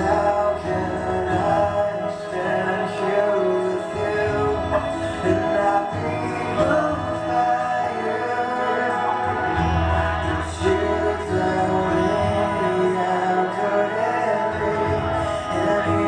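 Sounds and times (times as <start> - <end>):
gospel singing with instrumental backing: 0.0 - 16.0.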